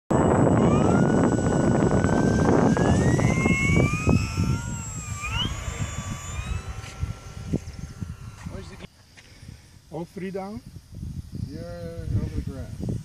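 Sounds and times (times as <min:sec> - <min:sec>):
electric motor and propeller whine: 0:00.1 - 0:13.0.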